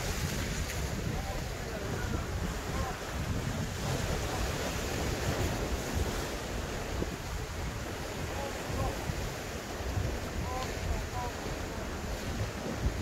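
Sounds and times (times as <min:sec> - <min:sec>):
sea waves against rocks: 0:00.0 - 0:13.0
wind buffeting microphone: 0:00.0 - 0:13.0.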